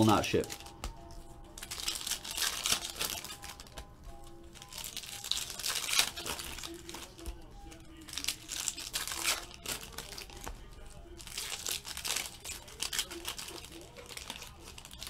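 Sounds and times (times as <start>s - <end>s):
foil wrappers crinkling: 0.0s - 3.9s, 4.5s - 15.0s
quiet background music: 0.0s - 15.0s.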